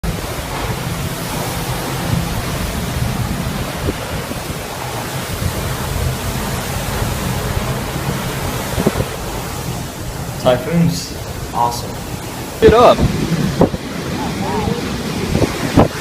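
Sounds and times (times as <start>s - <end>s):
heavy rain: 0.0s - 16.0s
strong wind: 0.0s - 16.0s.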